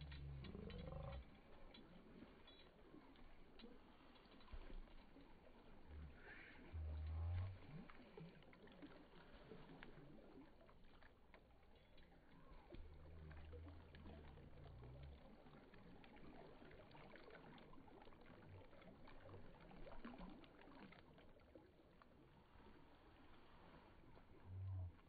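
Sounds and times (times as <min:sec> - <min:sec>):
faint stream flowing: 0:00.0 - 0:25.0.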